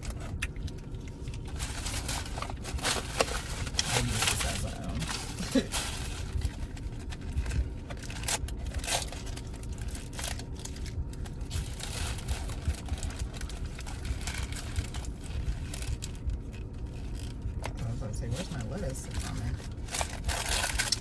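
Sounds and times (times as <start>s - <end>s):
low rumble: 0.0s - 21.0s
paper wrapper crinkling: 0.0s - 21.0s.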